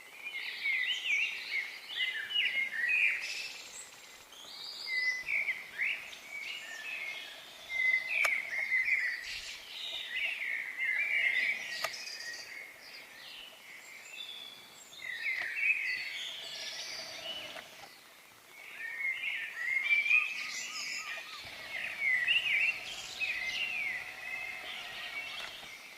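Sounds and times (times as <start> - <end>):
faint outdoor hum: 0.0 - 25.9
songbirds chirping: 0.0 - 25.9.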